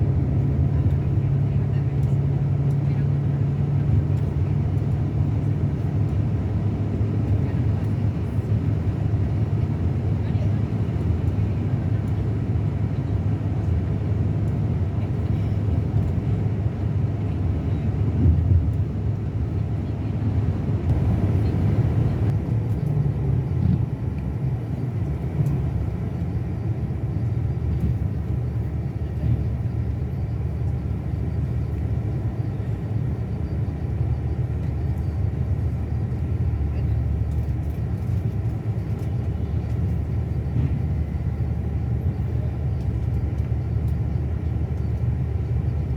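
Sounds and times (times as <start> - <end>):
diesel engine droning: 0.0 - 45.9
road rumble: 0.0 - 45.9.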